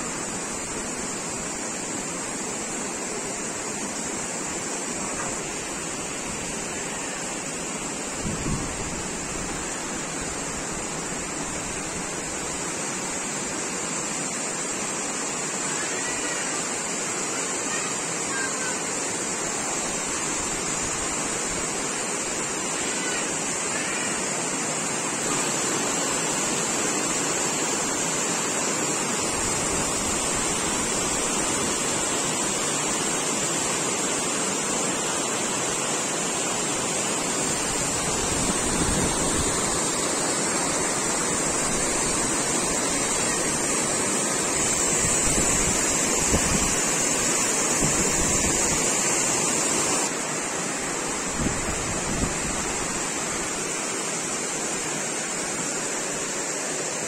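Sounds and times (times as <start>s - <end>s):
water flowing: 0.0s - 57.0s.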